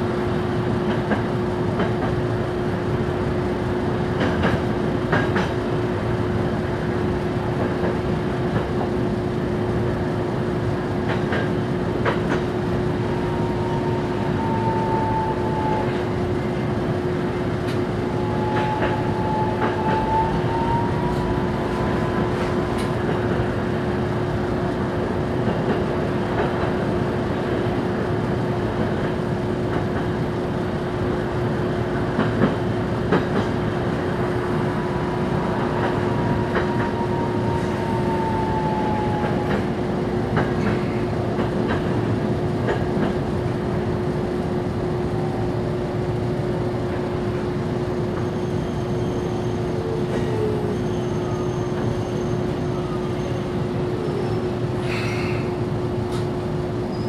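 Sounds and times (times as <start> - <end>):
tram wheels rumbling: 0.0 - 57.0.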